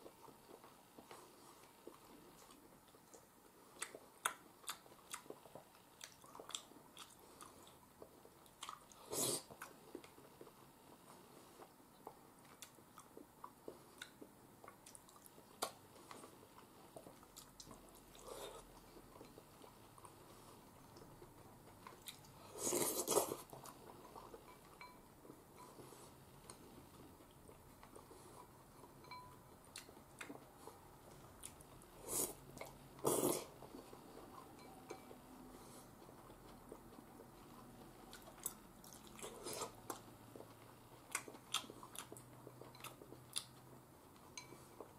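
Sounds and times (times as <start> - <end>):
quiet chewing: 0.0 - 44.9.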